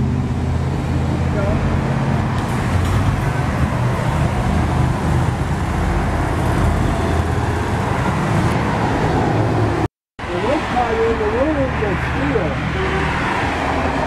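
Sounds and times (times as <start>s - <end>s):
road traffic engine rumble: 0.0s - 14.0s.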